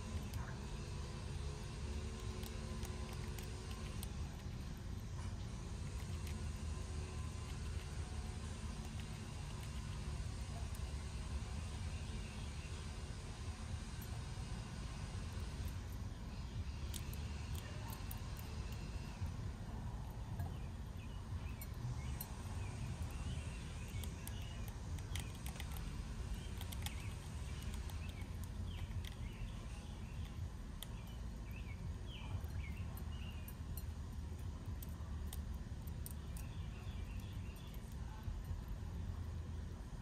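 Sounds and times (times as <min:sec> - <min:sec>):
low steady rumble: 0:00.0 - 0:40.0
small birds chirping: 0:00.0 - 0:40.0
squirrel chewing seeds: 0:00.0 - 0:40.0.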